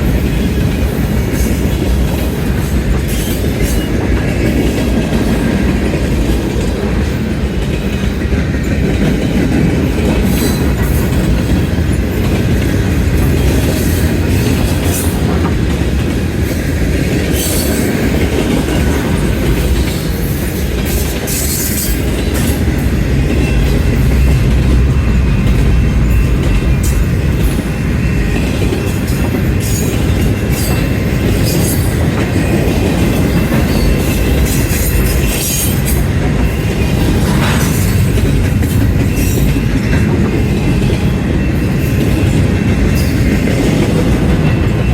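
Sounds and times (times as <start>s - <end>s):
train rumbling over rails: 0.0s - 44.9s.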